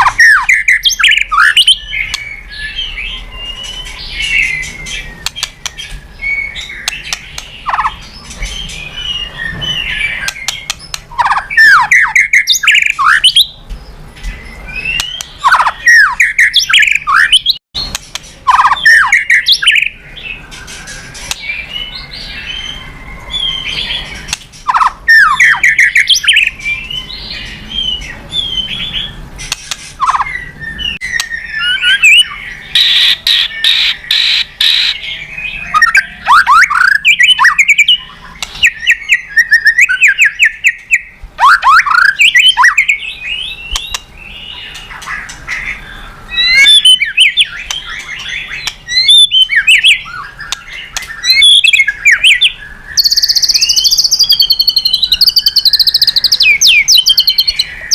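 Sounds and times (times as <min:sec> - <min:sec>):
bird singing varied song: 0:00.0 - 0:57.9.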